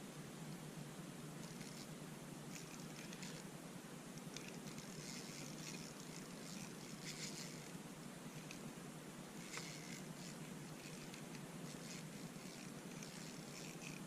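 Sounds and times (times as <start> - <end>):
low steady hum: 0.0 - 14.0
rustles and light clicks: 1.4 - 3.5, 4.1 - 14.0.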